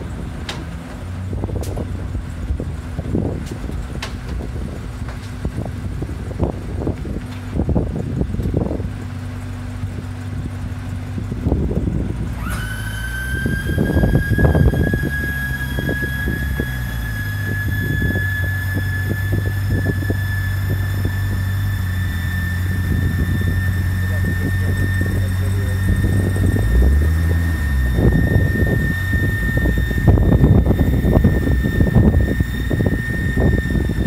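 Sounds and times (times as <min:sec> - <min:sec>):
engine idling: 0:00.0 - 0:34.0
hydraulic lift whine: 0:00.0 - 0:34.0.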